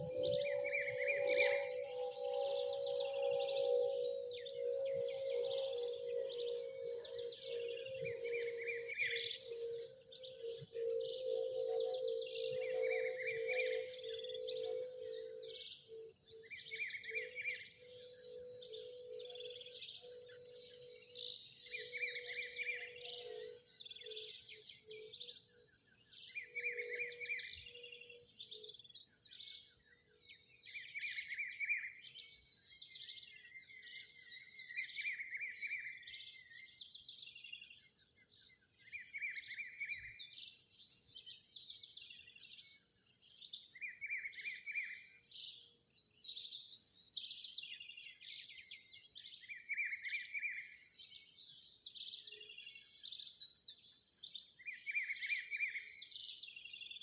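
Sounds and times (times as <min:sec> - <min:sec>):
birds singing and chirping: 0:00.0 - 0:57.0.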